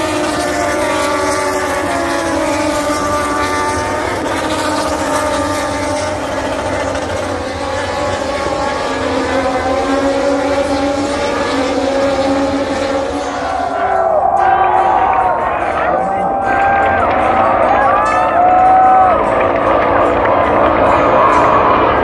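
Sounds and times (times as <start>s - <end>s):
racing motorcycle engines droning: 0.0s - 22.0s.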